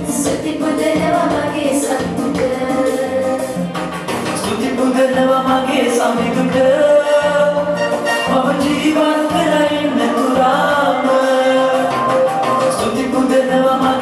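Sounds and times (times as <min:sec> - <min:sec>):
song with singing: 0:00.0 - 0:14.0.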